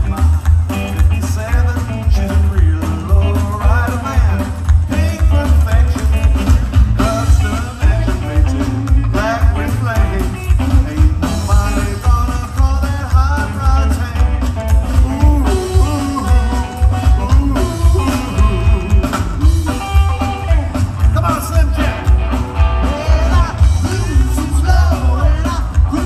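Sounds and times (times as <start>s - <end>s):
drums: 0.0s - 26.0s
electric guitar: 0.0s - 26.0s
upright bass: 0.0s - 26.0s.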